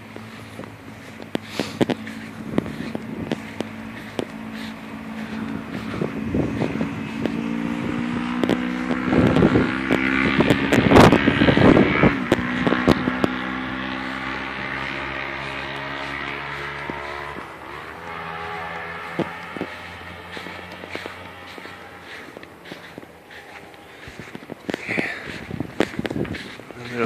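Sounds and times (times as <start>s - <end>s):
motor-like drone: 0.0s - 27.0s
wind buffeting microphone: 0.0s - 27.0s.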